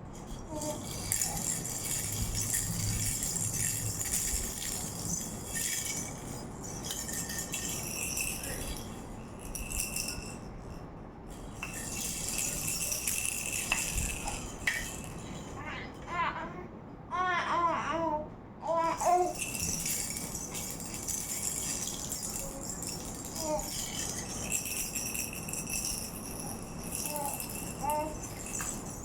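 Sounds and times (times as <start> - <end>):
rattle shaking: 0.0 - 16.0, 18.8 - 29.0.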